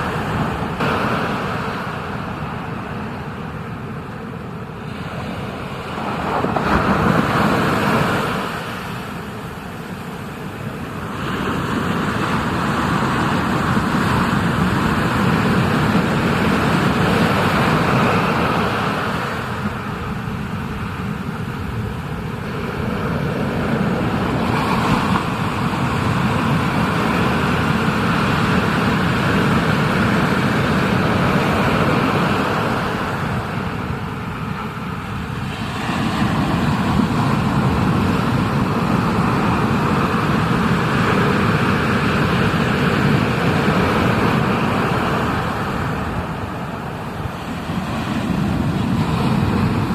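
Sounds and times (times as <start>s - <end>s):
rushing ocean water: 0.0s - 49.9s
wind buffeting microphone: 0.0s - 49.9s.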